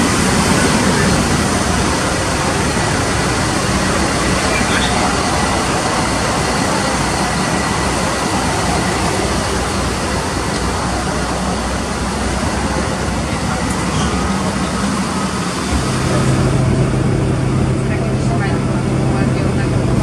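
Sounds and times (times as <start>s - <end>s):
bus engines idling: 0.0s - 20.0s.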